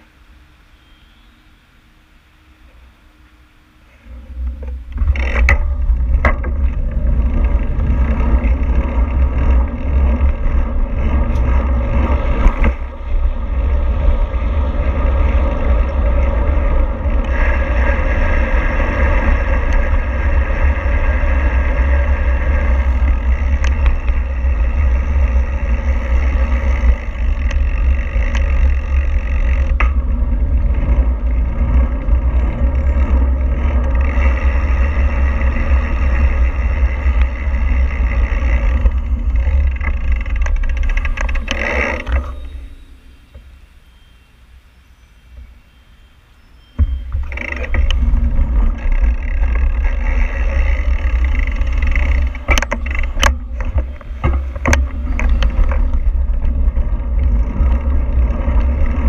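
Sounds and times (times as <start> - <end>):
loud steady low rumble: 0.0 - 59.0
road and wind noise: 0.0 - 59.0.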